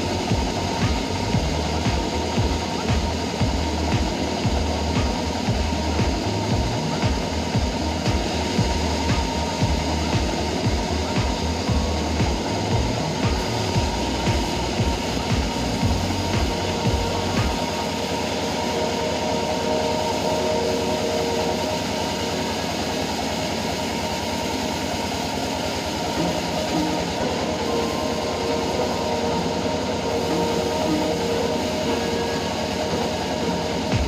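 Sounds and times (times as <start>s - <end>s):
sawmill machinery humming: 0.0s - 34.0s.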